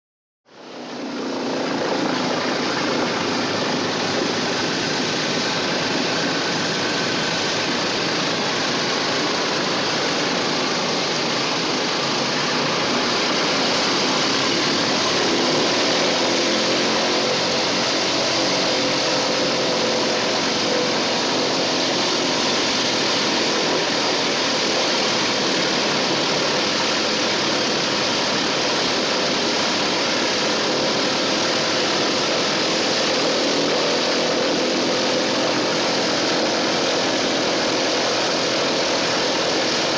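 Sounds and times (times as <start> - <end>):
propeller aircraft engines from cabin: 0.5 - 39.9.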